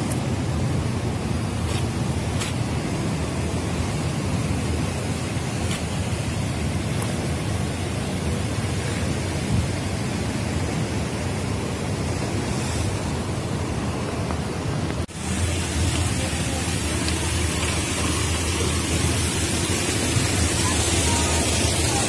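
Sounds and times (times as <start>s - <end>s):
city street traffic roar: 0.0s - 22.0s.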